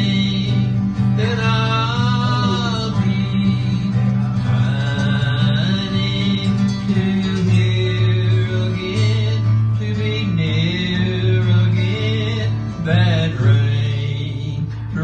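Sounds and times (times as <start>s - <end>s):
acoustic guitar: 0.0s - 15.0s
man singing a waltz: 0.0s - 15.0s.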